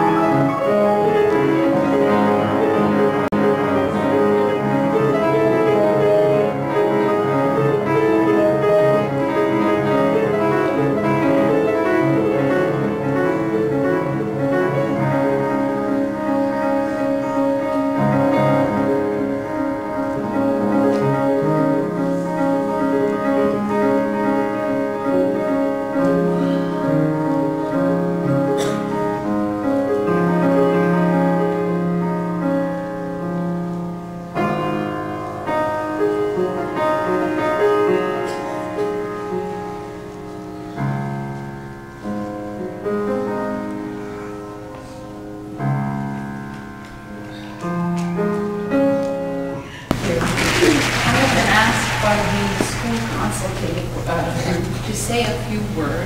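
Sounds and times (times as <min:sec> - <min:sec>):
solo piano: 0:00.0 - 0:56.0.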